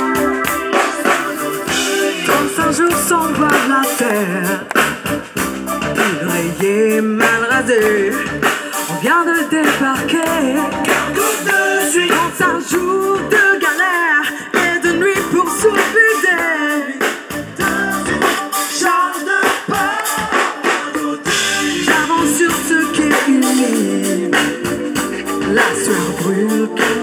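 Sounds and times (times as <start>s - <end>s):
woman singing lead: 0.0s - 5.0s, 5.9s - 27.0s
electric bass: 0.0s - 13.6s, 14.5s - 16.1s, 17.3s - 18.6s, 21.3s - 27.0s
drum kit beat: 0.0s - 27.0s.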